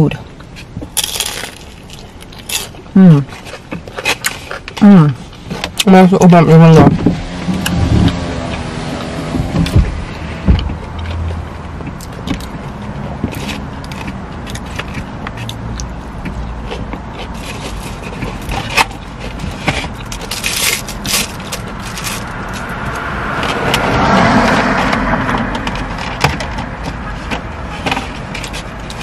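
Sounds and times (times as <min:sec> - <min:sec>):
crunching and chewing food: 0:00.0 - 0:06.0, 0:07.0 - 0:29.0
street traffic rumble: 0:00.0 - 0:29.0.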